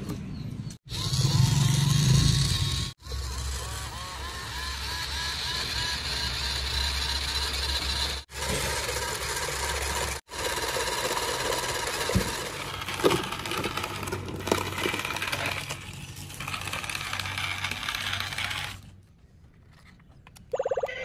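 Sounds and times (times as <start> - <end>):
toy motors and gears whirring: 0.8 - 21.0.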